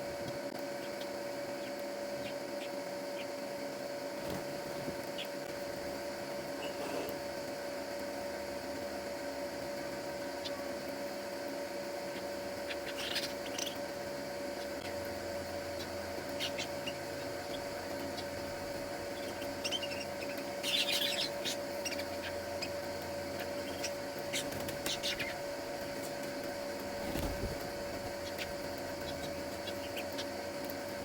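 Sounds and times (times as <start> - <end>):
steady electrical hum: 0.0 - 31.0
small birds chirping: 0.7 - 7.1, 10.0 - 10.8, 11.9 - 31.0.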